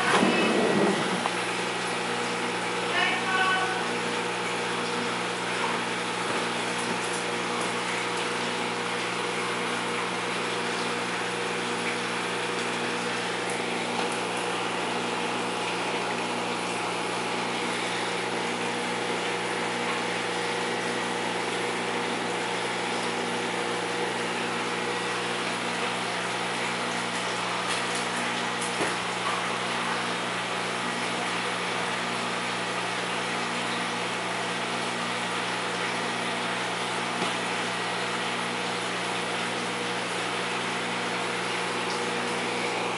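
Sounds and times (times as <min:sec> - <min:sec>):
electric pump hum: 0:00.0 - 0:42.9.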